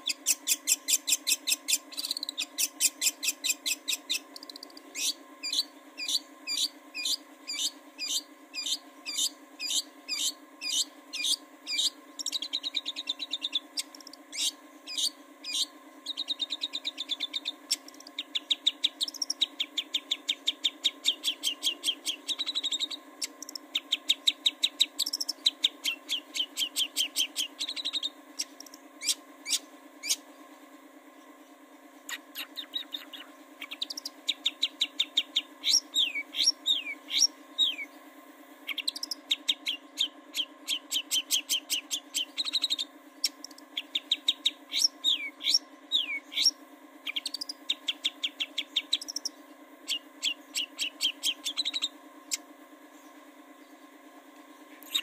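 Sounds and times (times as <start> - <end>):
bird singing: 0.0 - 55.0
low hum: 0.0 - 55.0.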